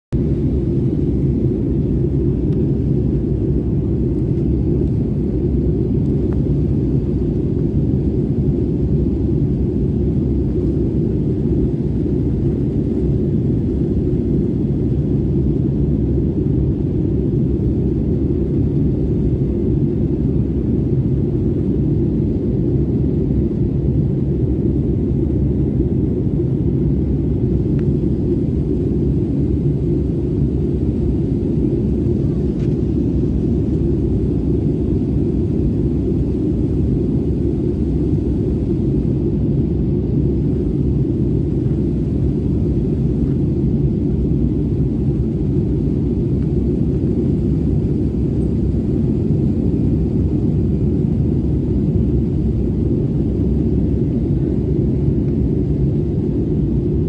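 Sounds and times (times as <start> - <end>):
airliner engines at takeoff power: 0.1 - 57.0.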